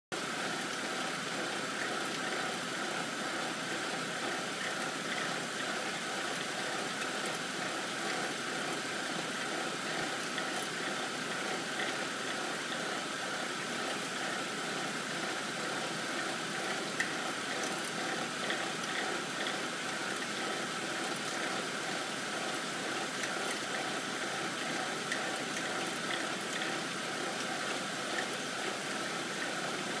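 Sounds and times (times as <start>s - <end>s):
car engine idling with rattle: 0.2s - 30.0s.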